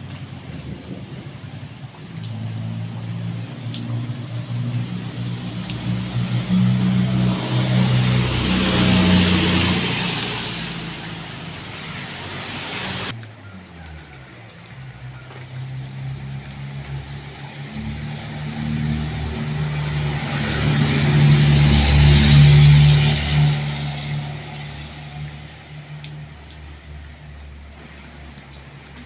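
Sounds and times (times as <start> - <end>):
vehicle passing on wet road: 0.0 - 29.0.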